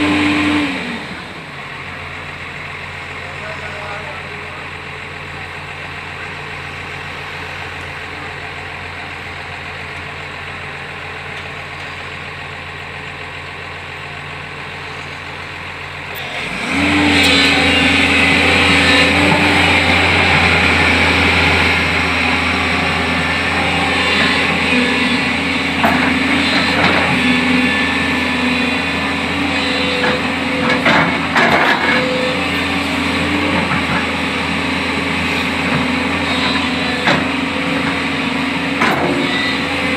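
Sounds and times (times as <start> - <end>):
diesel engine running and revving: 0.0 - 39.9.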